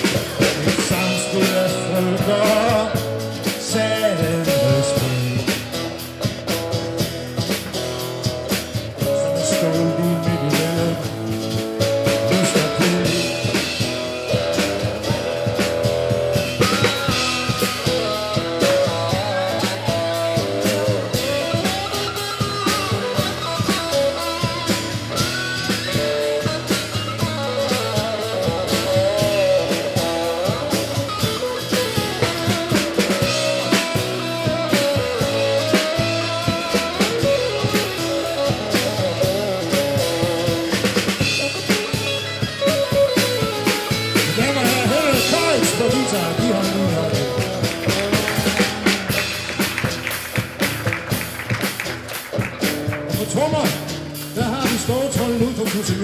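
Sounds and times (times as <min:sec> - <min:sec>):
acoustic guitar: 0:00.0 - 0:56.0
drum kit: 0:00.0 - 0:56.0
electric guitar bending lead notes: 0:00.0 - 0:56.0.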